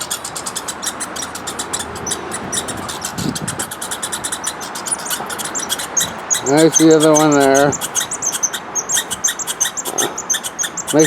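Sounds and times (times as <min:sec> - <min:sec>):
rapid high clicks: 0:00.0 - 0:11.0
traffic rushing noise: 0:00.0 - 0:11.0.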